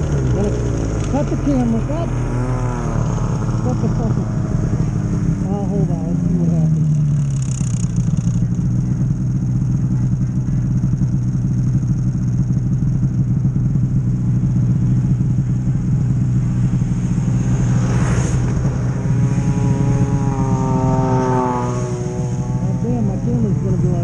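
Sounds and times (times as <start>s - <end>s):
engine idling: 0.0s - 24.0s
snowmobile approaching: 0.0s - 24.0s.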